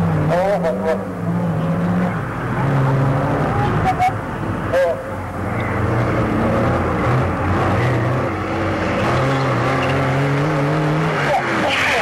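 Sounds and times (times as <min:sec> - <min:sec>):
car engine working hard: 0:00.0 - 0:12.0.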